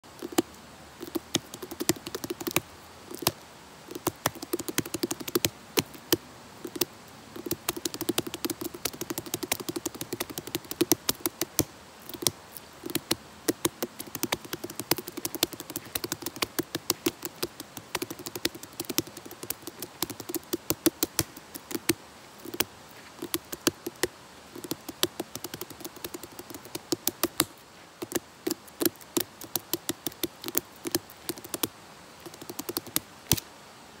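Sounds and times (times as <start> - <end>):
hand drumming on a gourd: 1.0 - 33.0.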